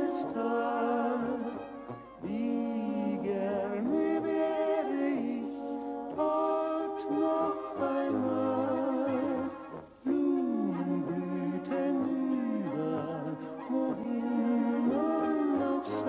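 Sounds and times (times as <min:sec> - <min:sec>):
man and woman singing duet: 0:00.0 - 0:16.0.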